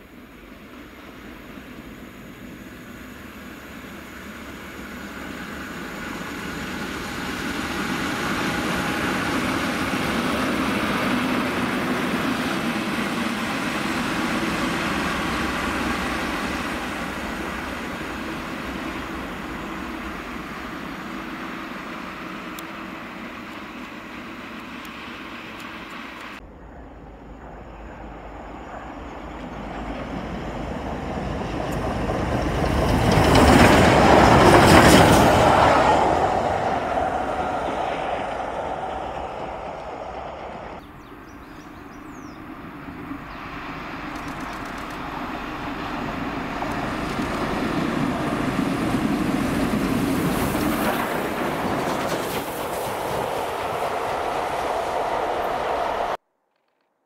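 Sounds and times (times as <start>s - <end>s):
steam locomotive approaching: 0.0s - 56.2s
steam train passing: 0.0s - 56.2s.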